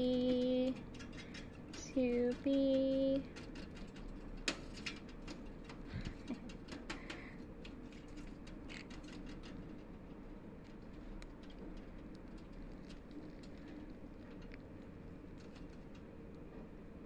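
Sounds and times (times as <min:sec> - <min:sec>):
finger tapping wire cage bars: 0:00.0 - 0:16.4
faint hum: 0:00.0 - 0:17.0.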